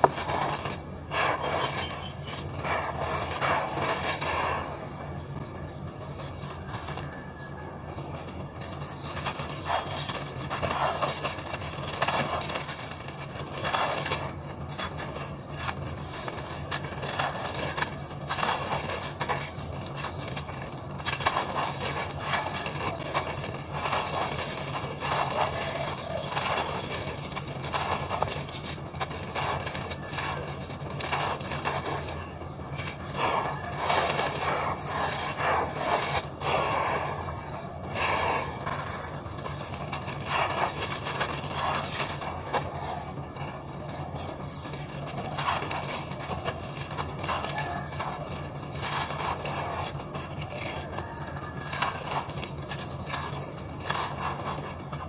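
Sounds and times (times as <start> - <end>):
grit pouring and raked: 0.0 - 5.0, 8.6 - 55.0
blocks crumbling in hands: 8.2 - 36.4, 38.4 - 55.0.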